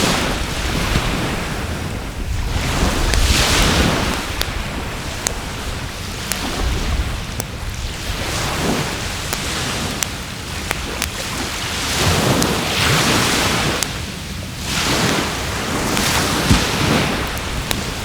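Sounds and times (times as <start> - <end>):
waves washing on shore: 0.0 - 18.0
wood fire crackling: 0.0 - 18.0.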